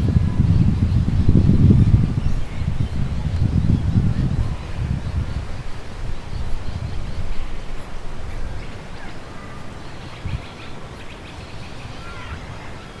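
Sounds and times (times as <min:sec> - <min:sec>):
wind gusting on microphone: 0:00.0 - 0:13.0
faint bird chirps: 0:00.1 - 0:13.0.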